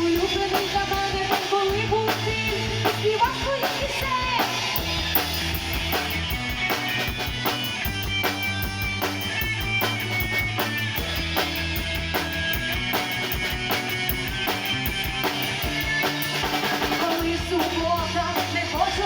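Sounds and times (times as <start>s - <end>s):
drum kit beat: 0.0s - 19.0s
electric guitar lines: 0.0s - 19.0s.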